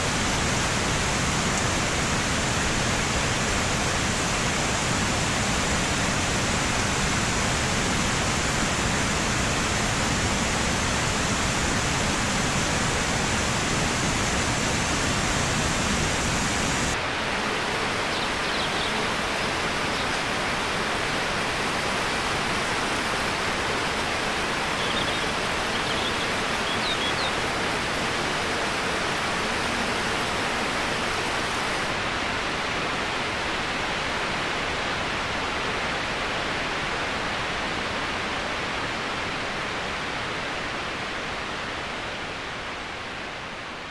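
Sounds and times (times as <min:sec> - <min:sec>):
waterfall rushing: 0:00.0 - 0:43.2.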